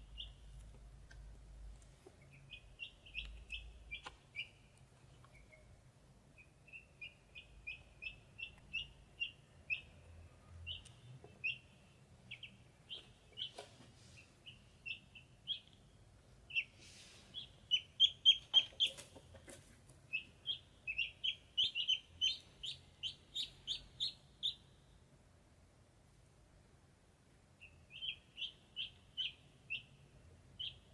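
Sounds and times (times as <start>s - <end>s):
ducklings peeping: 0.0s - 0.8s, 2.0s - 25.0s, 27.5s - 30.9s.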